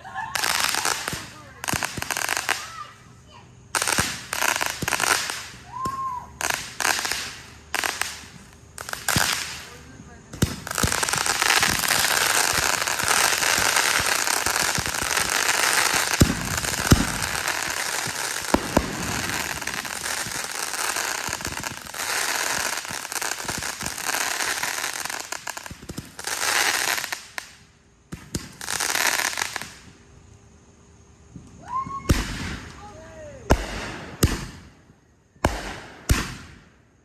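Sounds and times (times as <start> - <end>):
fireworks bangs: 0.0 - 3.0, 3.7 - 27.5, 31.6 - 36.8
fireworks crackling: 0.0 - 30.2, 31.3 - 37.0.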